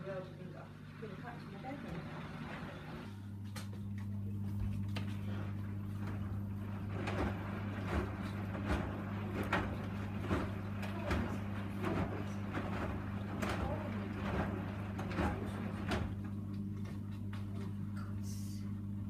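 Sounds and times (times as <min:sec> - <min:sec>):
washing machine low hum: 0:00.0 - 0:19.0.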